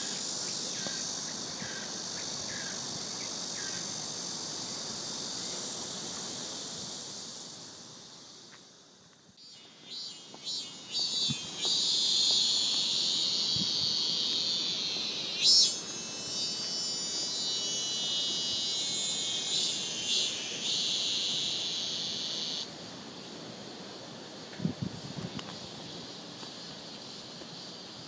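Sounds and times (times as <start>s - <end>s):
high-pitched insect-like hiss: 0.0s - 28.0s.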